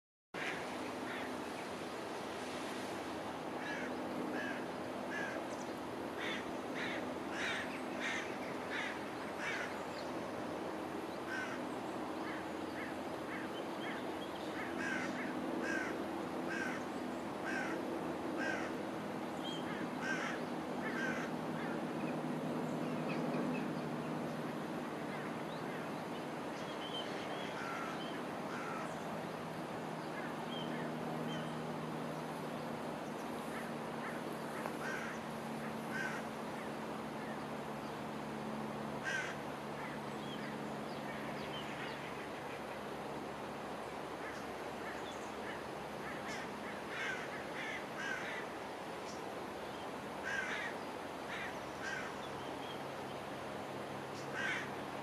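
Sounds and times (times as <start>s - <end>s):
birds calling: 0.4s - 2.0s, 3.5s - 55.0s
low steady hum: 0.4s - 55.0s.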